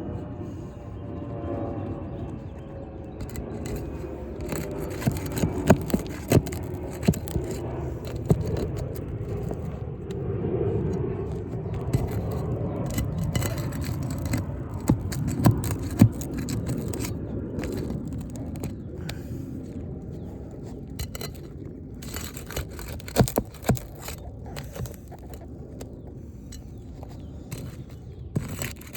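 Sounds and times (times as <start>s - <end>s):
shingles being scraped: 2.3s - 28.9s
tool clicking against shingles: 2.6s - 28.9s.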